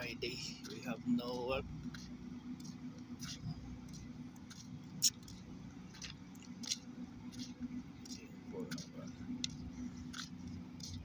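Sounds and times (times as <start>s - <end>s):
faint steady hum: 0.0s - 11.0s
footsteps on gritty concrete: 0.0s - 11.0s.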